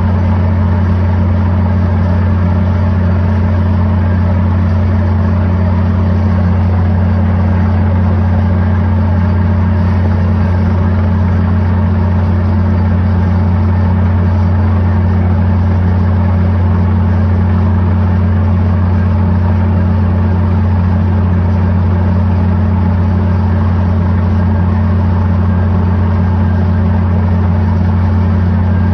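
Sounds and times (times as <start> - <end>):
drilling rig engine drone: 0.0 - 28.9.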